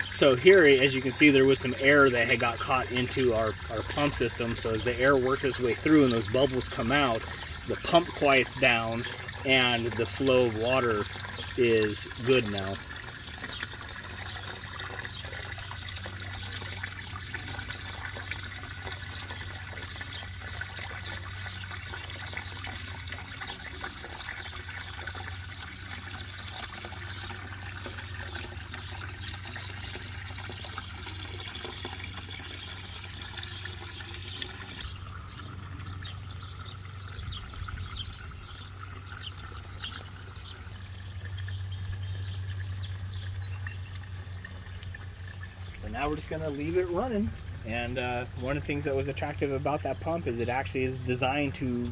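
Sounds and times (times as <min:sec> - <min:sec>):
waterfall splashing into pond: 0:00.0 - 0:51.9.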